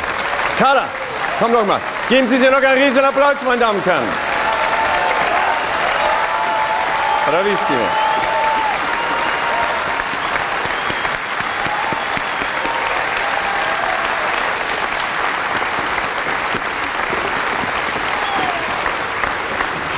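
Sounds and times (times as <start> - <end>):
large audience applauding: 0.0 - 19.9.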